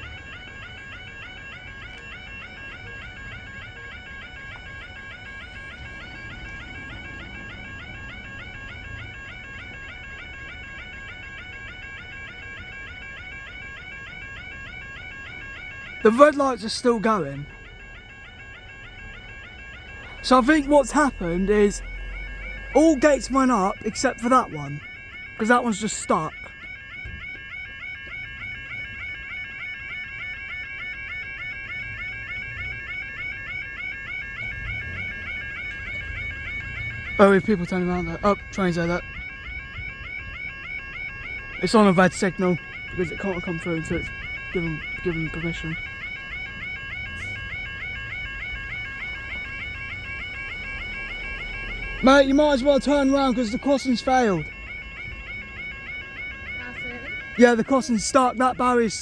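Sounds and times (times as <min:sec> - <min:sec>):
level crossing alarm warbling: 0:00.0 - 0:59.0.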